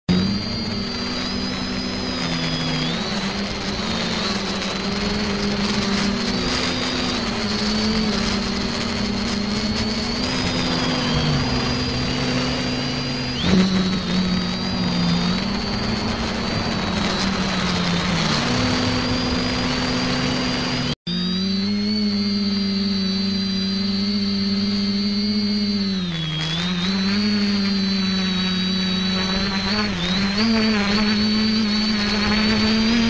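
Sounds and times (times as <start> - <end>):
quadcopter motors buzzing: 0.0 - 33.0.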